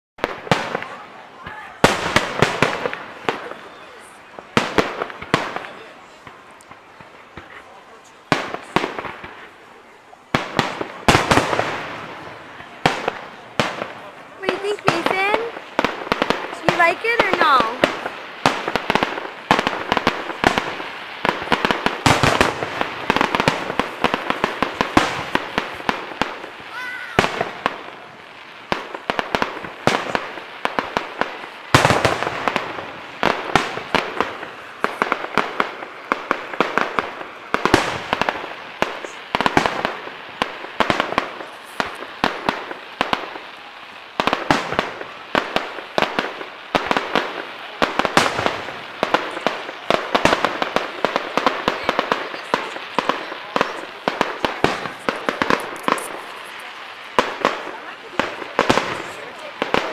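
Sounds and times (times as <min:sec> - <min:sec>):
firecrackers crackling: 0:00.2 - 0:59.9
loud firework bangs: 0:00.2 - 0:59.9.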